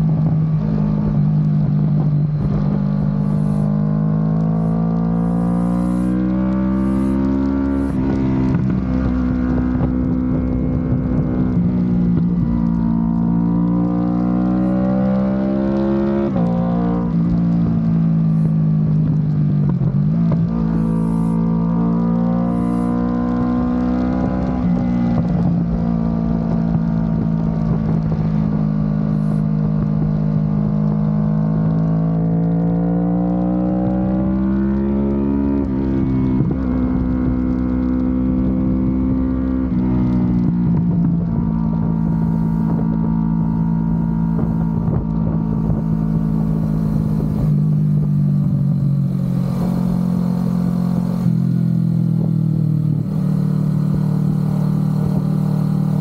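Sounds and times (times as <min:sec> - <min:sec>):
low wind rumble: 0:00.0 - 0:32.6, 0:35.0 - 0:56.0
motorcycle engine revving: 0:00.0 - 0:56.0.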